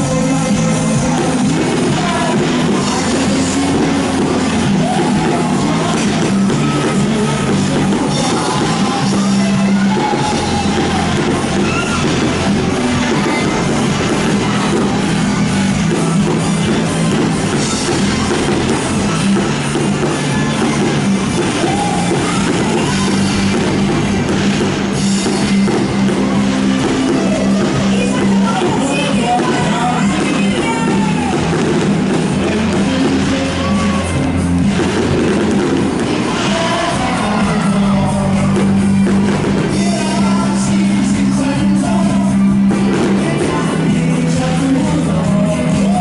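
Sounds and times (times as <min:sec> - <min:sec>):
loud band music with singing: 0:00.0 - 0:46.0.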